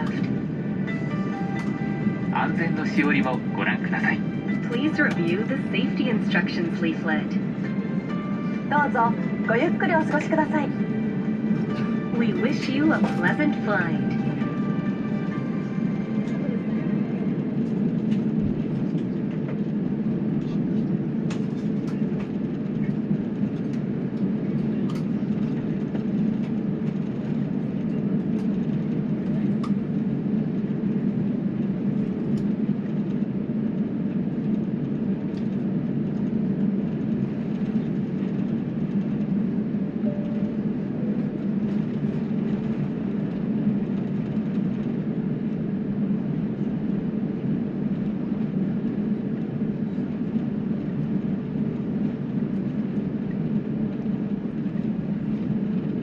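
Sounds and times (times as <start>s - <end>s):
air conditioning: 0.0s - 56.0s
jet engines rumbling: 0.0s - 56.0s.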